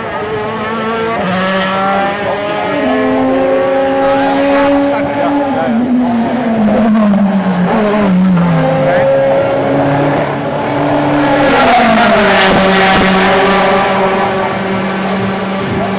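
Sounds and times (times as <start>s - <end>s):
race car engines running: 0.0s - 15.9s.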